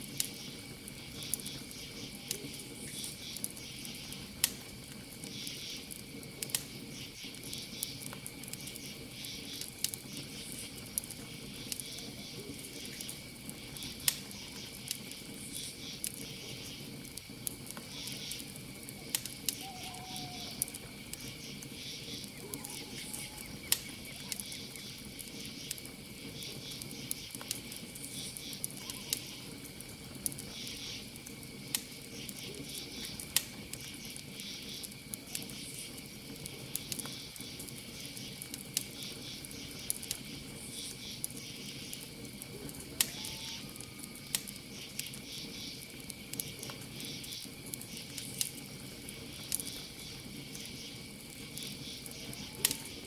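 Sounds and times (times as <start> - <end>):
campfire crackling: 0.0 - 53.0
crickets chirping: 0.0 - 53.0.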